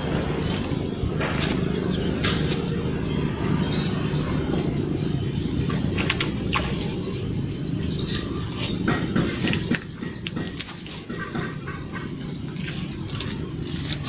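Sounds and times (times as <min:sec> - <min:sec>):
low open-air background rumble: 0:00.0 - 0:14.0.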